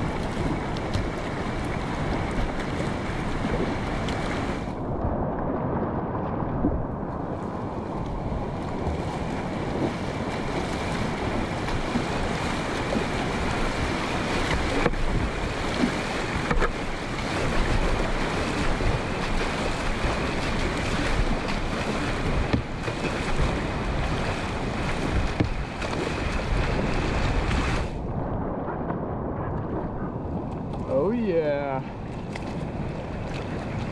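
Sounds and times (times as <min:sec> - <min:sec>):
whitewater rushing and splashing: 0:00.0 - 0:33.9.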